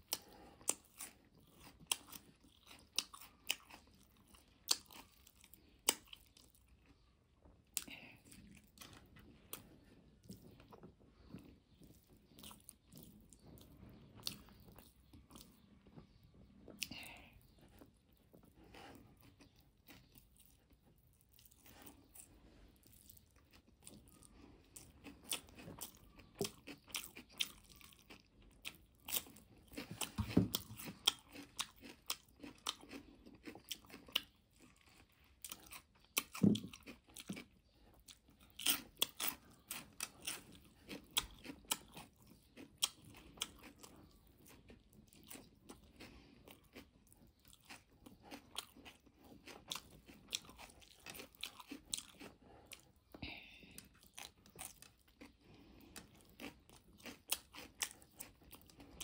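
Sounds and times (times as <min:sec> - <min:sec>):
person chewing and slurping noodles: 0:00.0 - 0:59.0.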